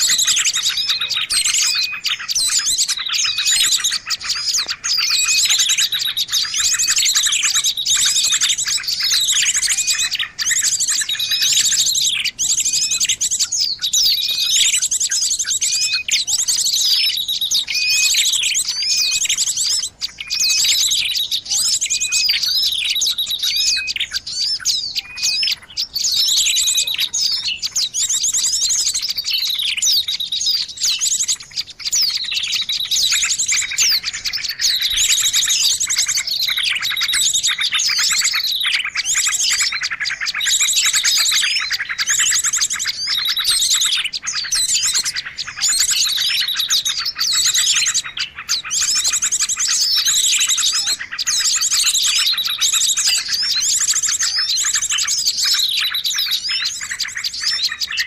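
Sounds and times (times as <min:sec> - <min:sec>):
small birds twittering: 0:00.0 - 0:58.0.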